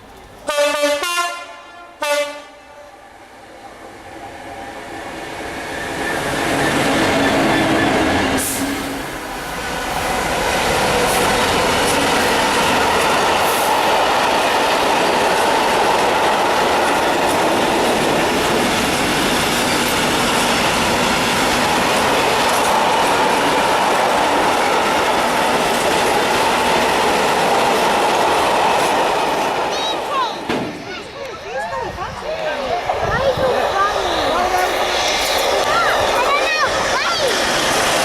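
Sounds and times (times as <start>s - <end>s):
train wheels rushing on rails: 0.0s - 38.0s.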